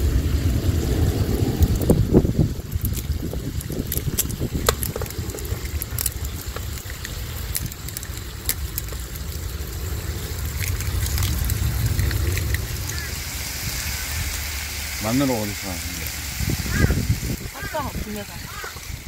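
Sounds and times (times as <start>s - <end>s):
meat sizzling: 0.0s - 19.0s
wind rumbling on microphone: 0.0s - 19.0s.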